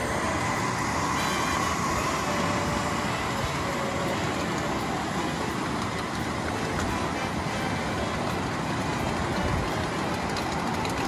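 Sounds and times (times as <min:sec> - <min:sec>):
miniature steam train rumbling: 0:00.0 - 0:11.0.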